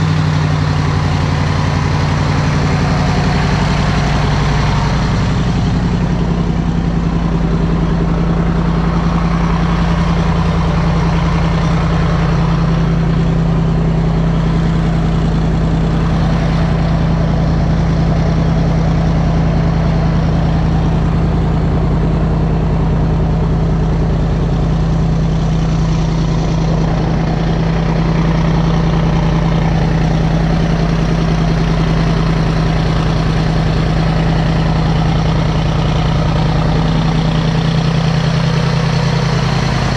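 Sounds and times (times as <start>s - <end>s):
boat engine droning: 0.0s - 39.9s
churning water rushing: 0.0s - 39.9s.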